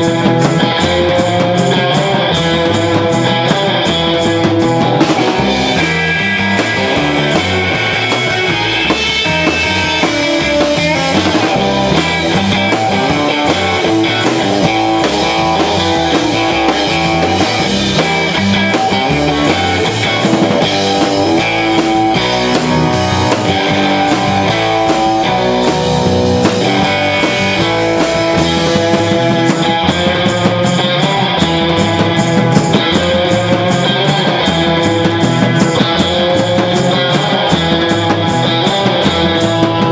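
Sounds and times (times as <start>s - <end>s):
instrumental rock band playing: 0.0s - 39.9s.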